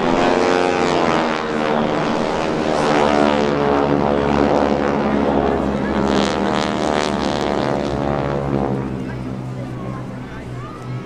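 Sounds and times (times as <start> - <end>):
propeller planes droning overhead: 0.0 - 11.0.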